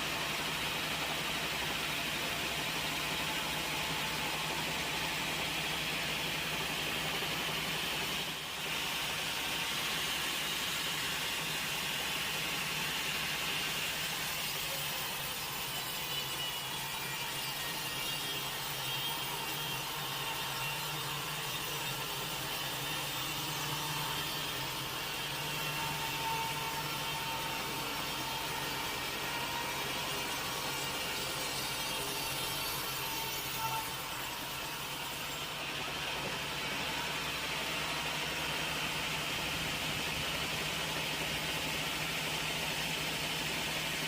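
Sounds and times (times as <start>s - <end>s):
sawmill saw cutting log: 0.0s - 44.0s.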